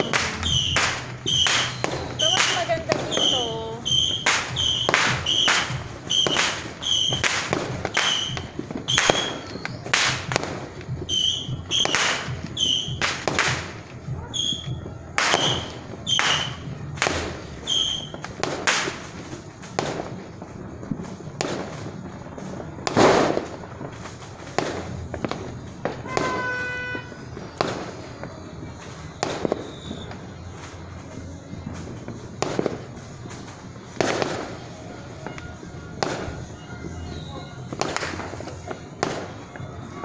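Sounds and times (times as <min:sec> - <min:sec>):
fireworks bangs: 0:00.0 - 0:40.0
high-pitched firework tone: 0:00.0 - 0:40.0.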